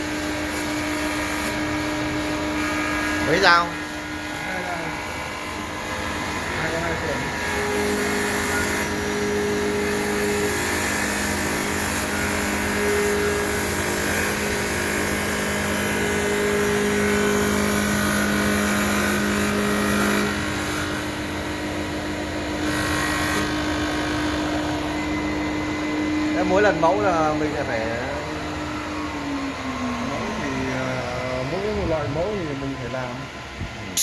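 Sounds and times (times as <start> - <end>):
lathe motor hum: 0.0 - 34.0.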